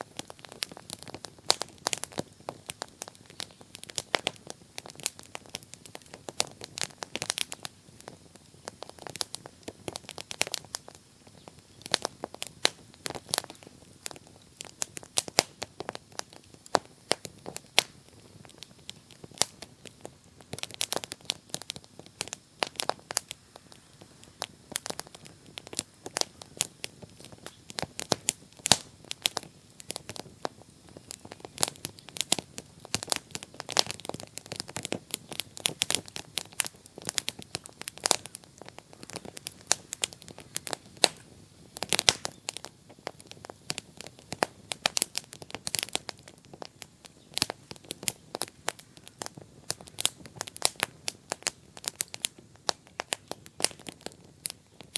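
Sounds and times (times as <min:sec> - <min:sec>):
bonfire crackling and popping: 0:00.0 - 0:54.9.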